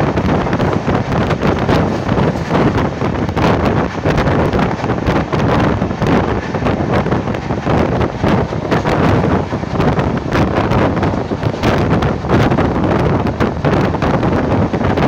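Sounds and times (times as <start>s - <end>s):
train running rumble: 0.0s - 15.0s
wind buffeting microphone: 0.0s - 15.0s.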